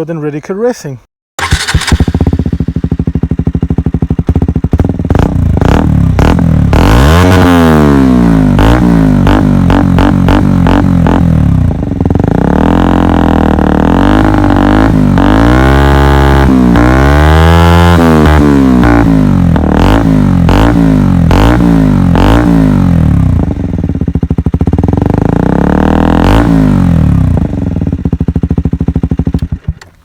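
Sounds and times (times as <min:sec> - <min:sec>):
motorcycle engine idling and revving: 0:01.4 - 0:30.0.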